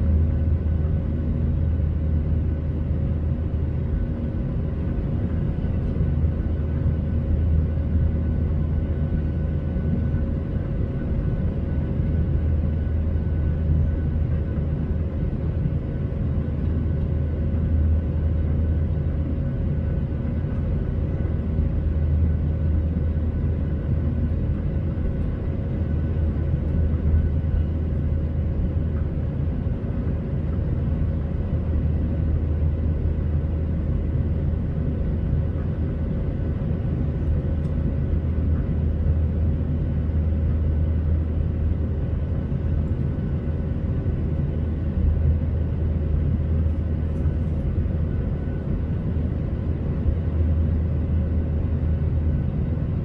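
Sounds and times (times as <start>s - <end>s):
airflow over wing: 0.0s - 53.0s
faint steady hum: 0.0s - 53.0s
jet engine low rumble: 0.0s - 53.0s.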